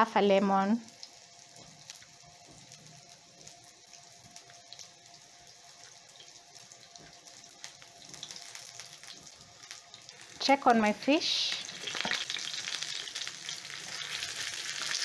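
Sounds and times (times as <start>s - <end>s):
fish patties sizzling in oil: 0.0s - 15.0s.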